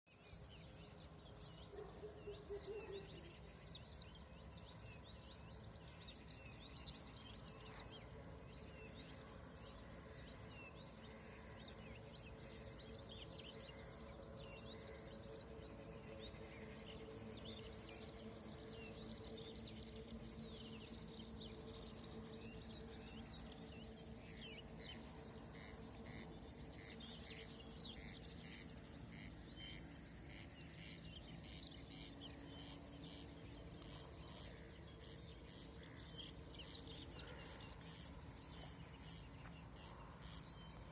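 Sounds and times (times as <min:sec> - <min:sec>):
small birds chirping and singing: 0:00.1 - 0:40.9
faint low hum: 0:00.2 - 0:40.9.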